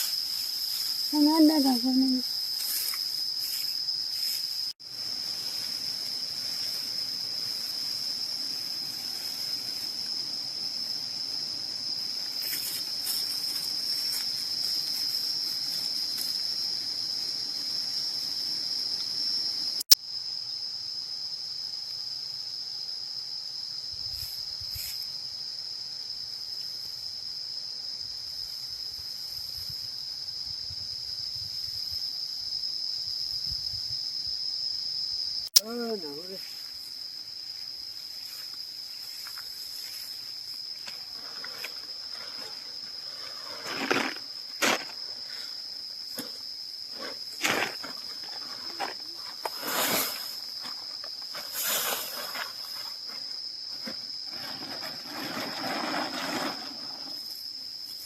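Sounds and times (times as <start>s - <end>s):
shrill insect chorus: 0.0s - 58.0s.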